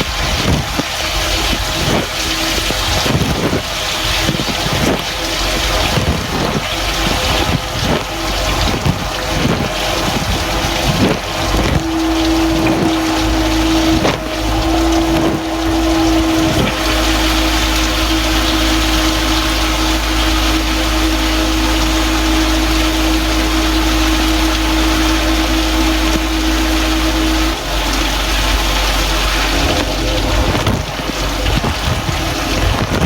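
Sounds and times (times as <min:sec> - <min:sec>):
dishwasher pump hum: 0:00.0 - 0:33.0
water spraying against plastic: 0:00.0 - 0:33.0.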